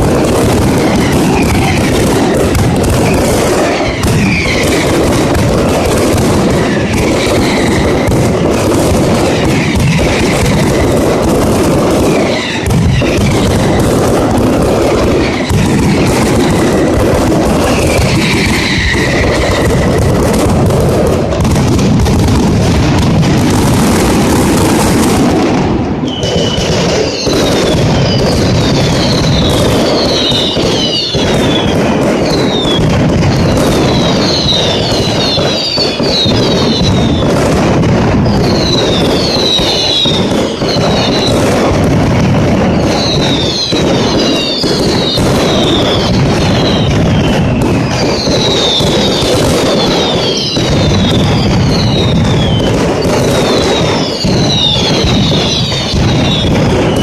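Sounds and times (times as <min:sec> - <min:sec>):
falling pyrotechnic whistles: 0:00.0 - 0:57.0
firecrackers banging: 0:00.0 - 0:57.0.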